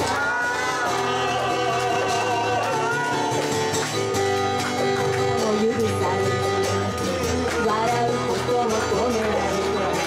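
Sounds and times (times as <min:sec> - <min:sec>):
acoustic group playing: 0:00.0 - 0:10.0
acoustic guitar strumming: 0:00.0 - 0:10.0.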